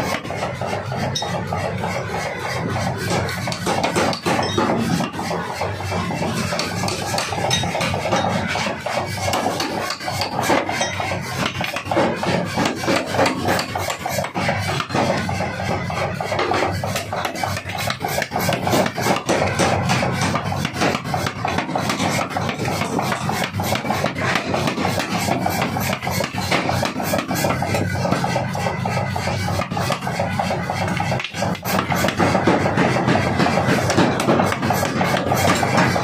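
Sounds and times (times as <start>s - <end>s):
machine running noise: 0.0s - 36.0s
power hammer pounding steel: 0.0s - 36.0s.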